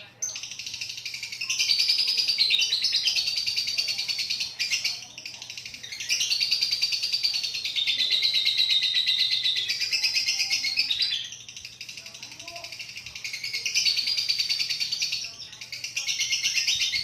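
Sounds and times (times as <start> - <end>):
bird chattering high chirps: 0.0 - 17.0.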